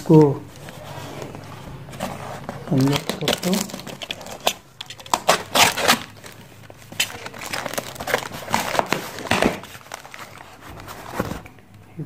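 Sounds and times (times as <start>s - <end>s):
packaging crinkling and crackling: 0.0s - 11.6s.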